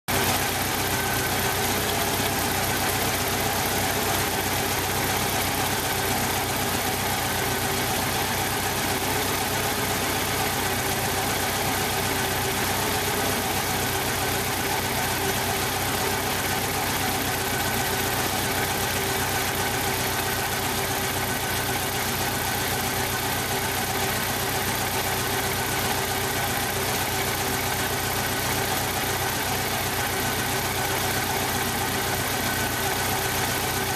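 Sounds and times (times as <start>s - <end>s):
engine idling rough: 0.1s - 33.9s.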